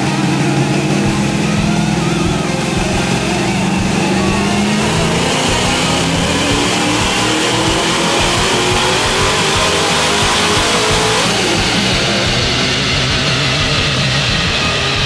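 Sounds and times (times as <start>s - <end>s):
loud car engine revving: 0.0s - 15.0s
music: 0.0s - 15.0s.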